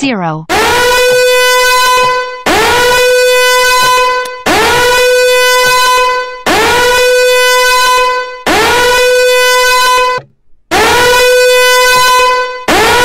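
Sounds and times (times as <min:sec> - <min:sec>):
timer alarm buzzing: 0:00.5 - 0:13.0.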